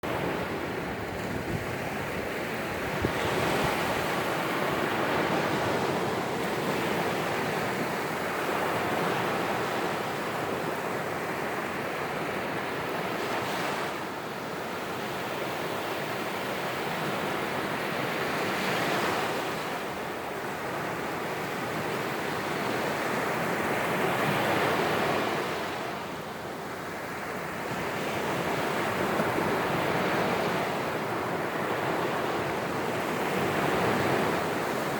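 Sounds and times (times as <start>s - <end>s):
waves breaking on beach: 0.0s - 34.9s.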